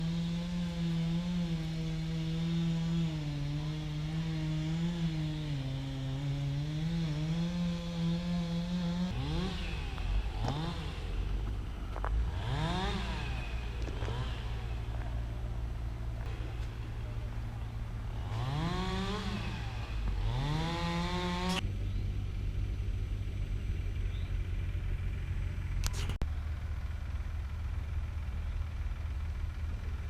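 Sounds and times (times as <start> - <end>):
engine running and revving: 0.0 - 30.0.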